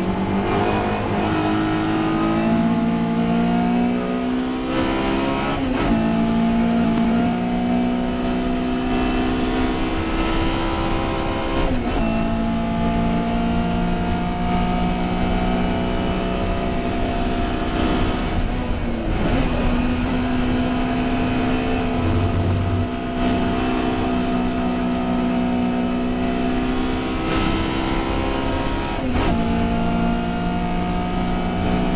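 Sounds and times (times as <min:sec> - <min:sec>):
race car engine running hard: 0:00.0 - 0:31.9.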